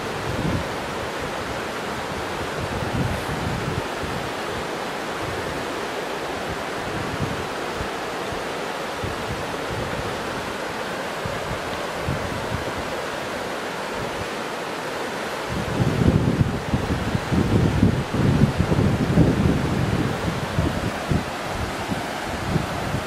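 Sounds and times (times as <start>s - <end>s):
wind buffeting microphone: 0.0s - 14.4s, 15.4s - 23.0s
water rushing over rocks: 0.0s - 23.0s.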